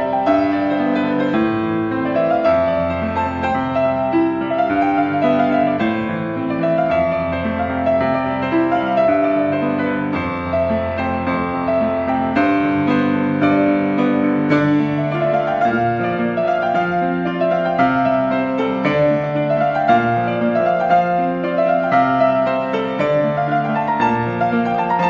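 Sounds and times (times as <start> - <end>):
slow solo piano piece: 0.0 - 25.0.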